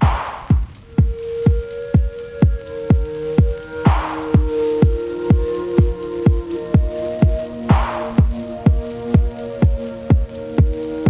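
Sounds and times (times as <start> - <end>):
kick drum beat: 0.0 - 11.0
sustained synth notes: 0.0 - 11.0.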